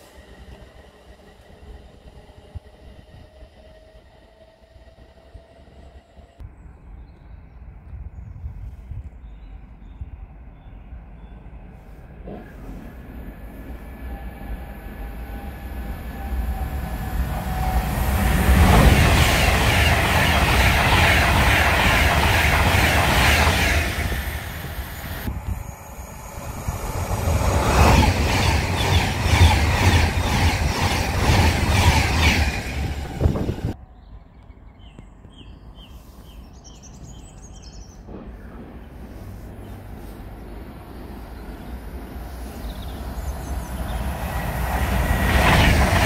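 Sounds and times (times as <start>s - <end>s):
electric train passing at speed: 0.0s - 8.9s, 9.5s - 33.9s, 37.5s - 46.0s.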